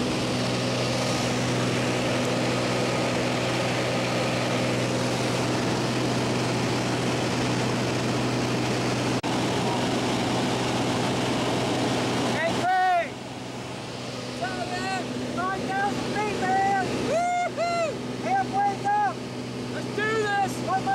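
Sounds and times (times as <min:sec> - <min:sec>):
aircraft engine and propeller droning: 0:00.0 - 0:20.9.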